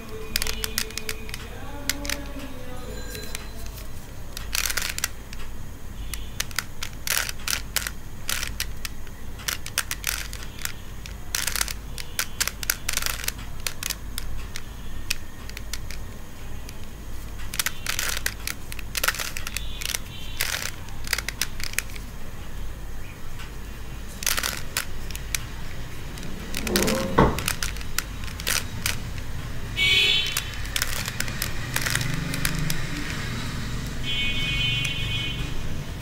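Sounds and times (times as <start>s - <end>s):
puzzle cube layers clicking: 0.0s - 36.0s.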